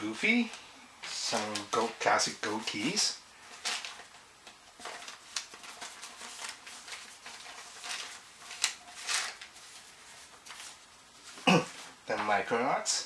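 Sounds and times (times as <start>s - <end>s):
paper rustles and soft scrapes: 0.0s - 12.6s.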